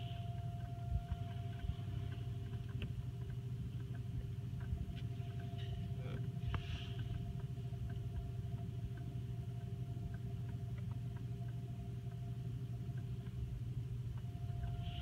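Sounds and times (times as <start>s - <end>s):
constant hum: 0.0s - 15.0s
muffled car wash rumble: 0.0s - 15.0s.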